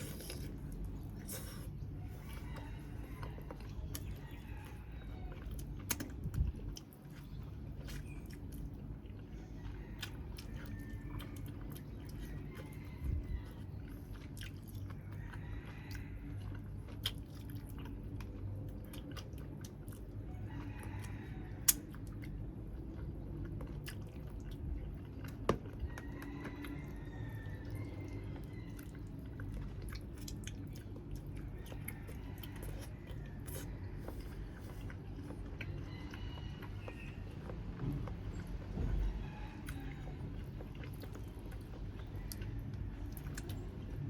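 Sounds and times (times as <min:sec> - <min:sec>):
chewing and biting food: 0:00.0 - 0:44.0.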